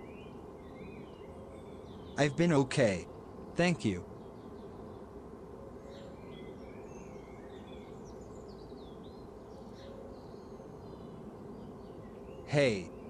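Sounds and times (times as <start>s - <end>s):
low hum and hiss: 0.0s - 13.0s
small birds chirping: 0.0s - 13.0s.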